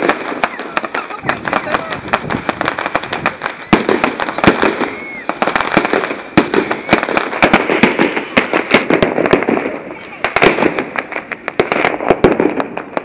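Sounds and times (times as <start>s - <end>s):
fireworks background rumble: 0.0s - 13.0s
fireworks bangs and crackles: 0.0s - 13.0s.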